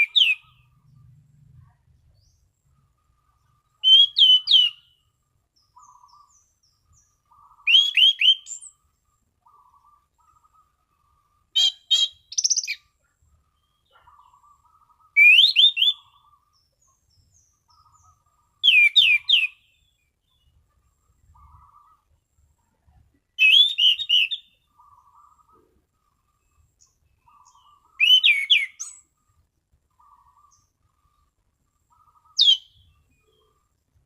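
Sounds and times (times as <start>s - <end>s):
thrush singing rising whistled notes: 0.0s - 22.2s, 23.2s - 29.3s, 30.0s - 33.6s.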